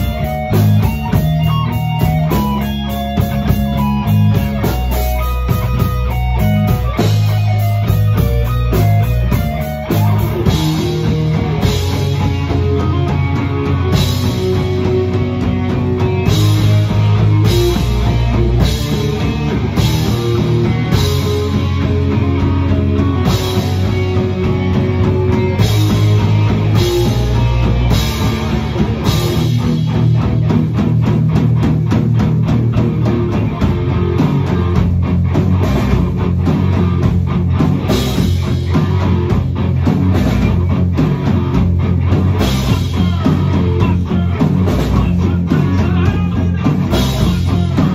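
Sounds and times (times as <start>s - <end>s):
drum kit beat: 0.0s - 47.9s
electric guitar: 0.0s - 47.9s.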